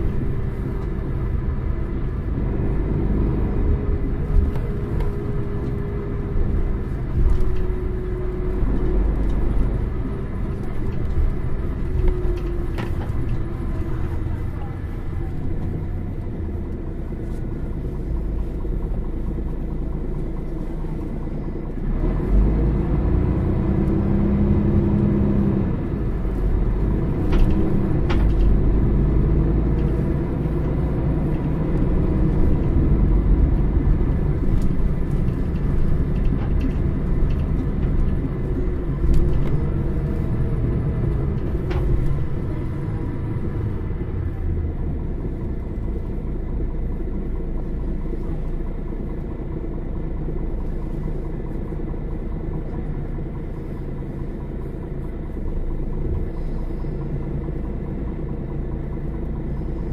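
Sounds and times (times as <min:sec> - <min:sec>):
bus diesel engine droning: 0:00.0 - 0:59.9.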